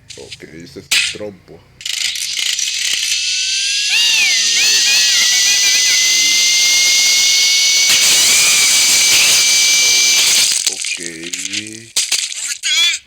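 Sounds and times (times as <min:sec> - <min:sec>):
spinning top whirring: 0:01.8 - 0:12.7.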